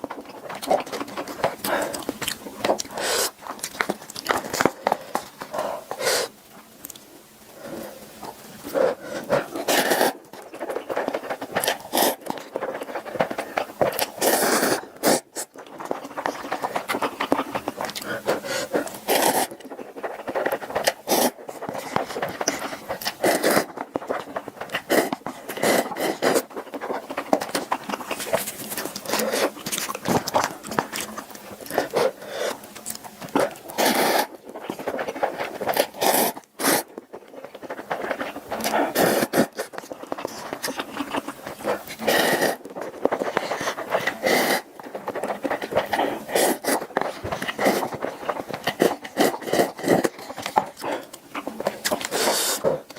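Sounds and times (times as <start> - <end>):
eating mouth sounds: 0.0 - 52.9.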